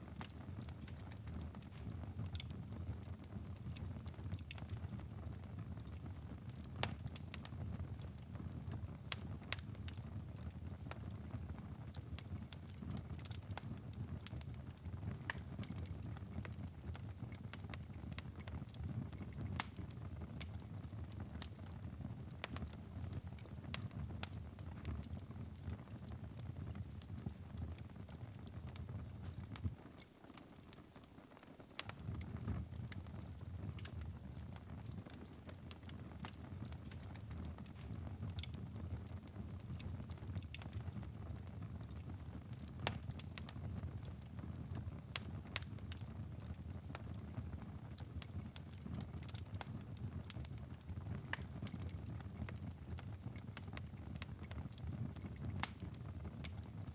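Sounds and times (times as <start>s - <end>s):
low rumble of flames: 0.0s - 30.0s, 31.7s - 56.9s
wood fire crackling: 0.0s - 56.9s.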